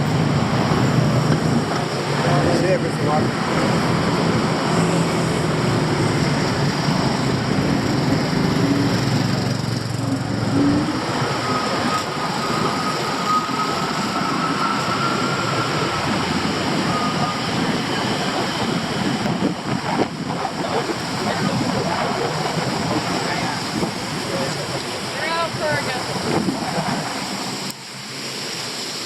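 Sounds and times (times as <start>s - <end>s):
passing vehicles: 0.0s - 29.0s
thin high whine: 0.0s - 29.0s.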